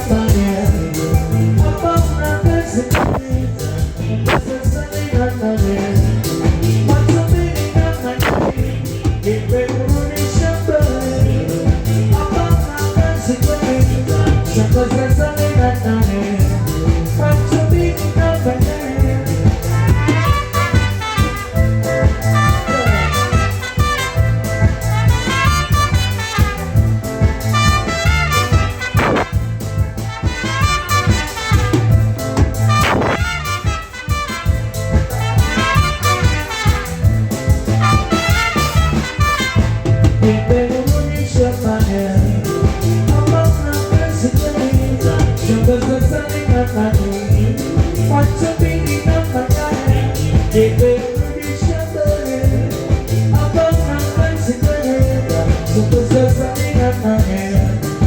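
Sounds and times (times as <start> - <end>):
live band playing instrumental: 0.0 - 58.0.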